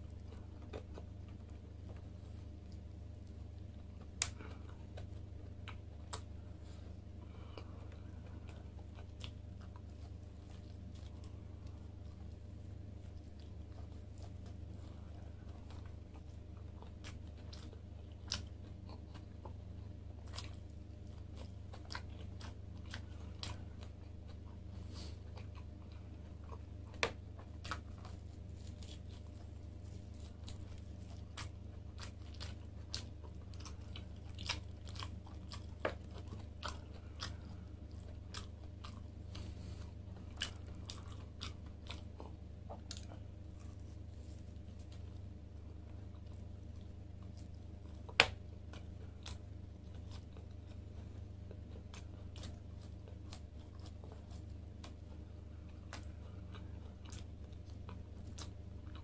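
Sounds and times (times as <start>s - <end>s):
chewing and biting: 0.0s - 59.0s.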